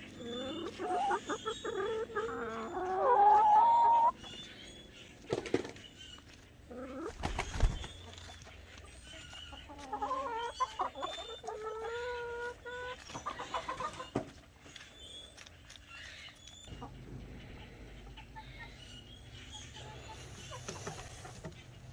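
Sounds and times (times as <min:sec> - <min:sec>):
hens clucking: 0:00.0 - 0:21.9.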